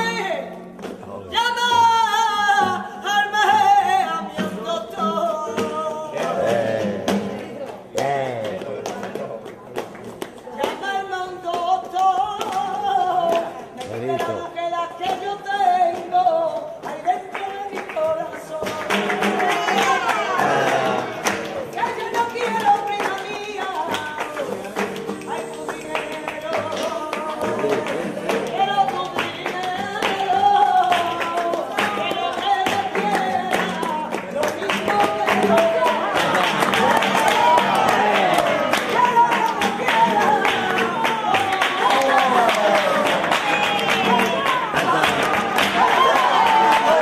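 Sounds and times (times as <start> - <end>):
rhythmic hand clapping: 0.0 - 47.0
person singing: 1.3 - 9.0, 10.6 - 47.0.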